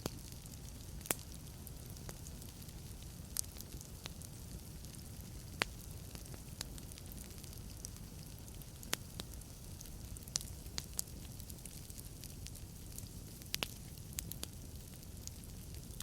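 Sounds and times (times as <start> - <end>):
fire flames rumbling: 0.0 - 16.0
logs crackling and popping: 0.0 - 16.0.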